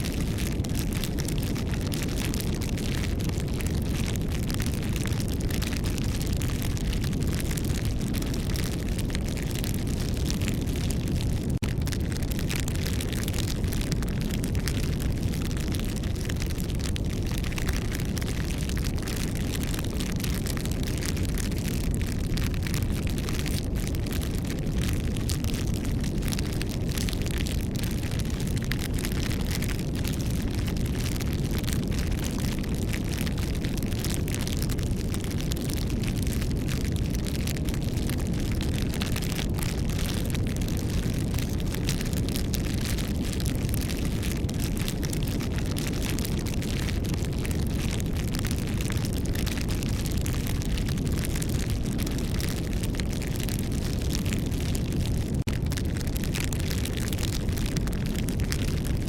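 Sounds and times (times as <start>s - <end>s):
campfire crackling: 0.1s - 59.0s.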